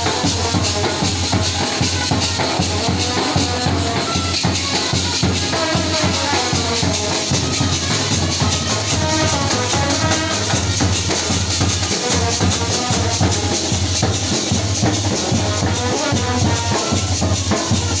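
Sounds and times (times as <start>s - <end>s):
brass band melody: 0.0s - 18.0s
rattling shaker: 0.0s - 18.0s
steady drumming: 0.0s - 18.0s.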